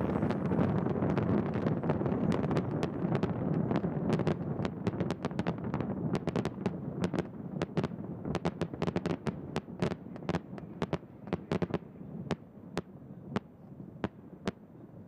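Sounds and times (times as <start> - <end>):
fireworks popping and banging: 0.0 - 14.6.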